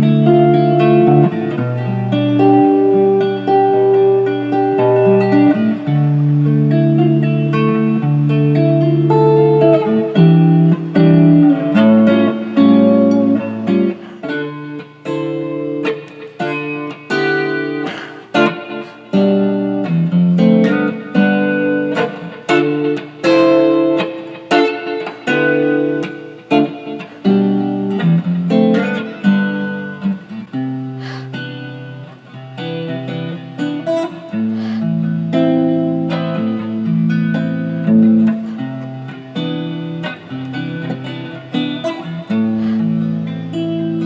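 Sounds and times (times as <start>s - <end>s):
guitar picking notes and chords: 0.0s - 44.0s.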